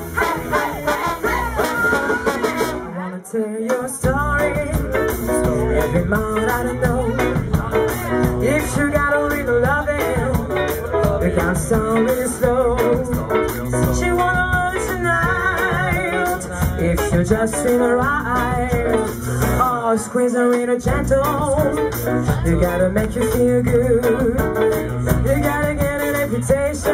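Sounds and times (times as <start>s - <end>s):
live rhythm and blues band: 0.0s - 3.0s, 3.6s - 26.9s.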